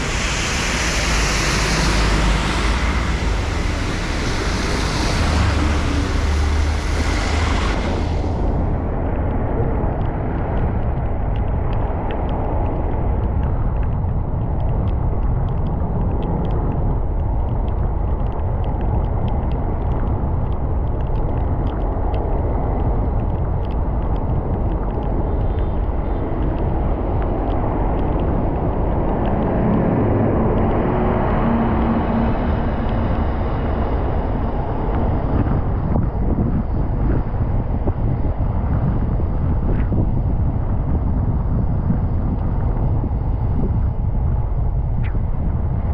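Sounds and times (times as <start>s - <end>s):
steady rain: 0.0s - 43.5s
low steady hum: 0.0s - 45.9s
raindrop ticks: 0.0s - 45.9s.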